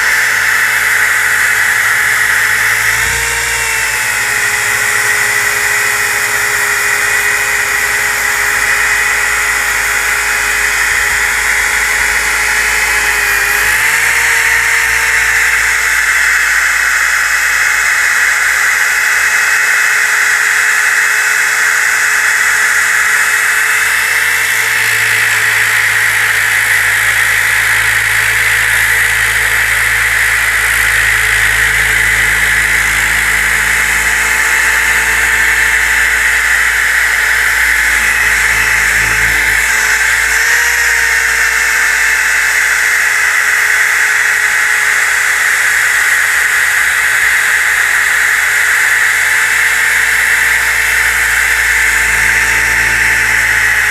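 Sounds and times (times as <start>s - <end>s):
disc sander sanding wood: 0.0s - 53.9s.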